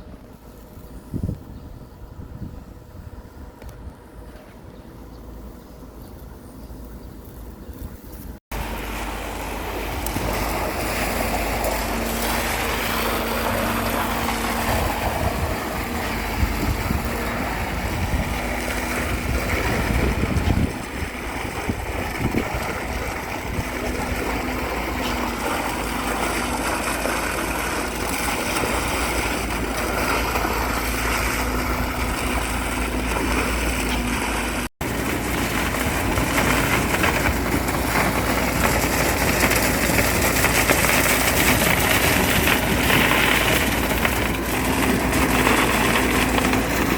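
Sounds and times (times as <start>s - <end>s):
engine running: 0.0s - 46.9s.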